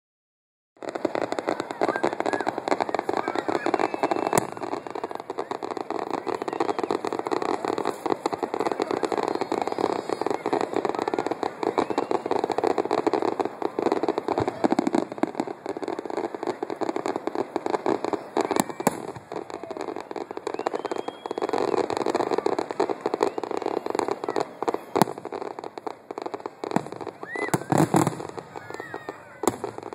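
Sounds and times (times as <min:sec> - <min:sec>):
firework bang: 0:00.8 - 0:29.9
fireworks crackling and popping: 0:00.8 - 0:29.9.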